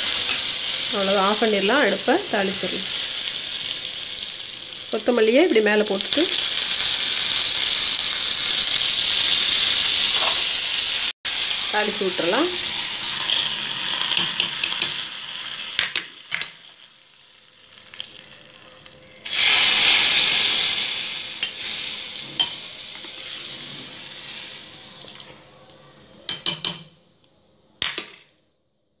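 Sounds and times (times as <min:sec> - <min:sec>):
hot oil sizzling: 0:00.0 - 0:25.3.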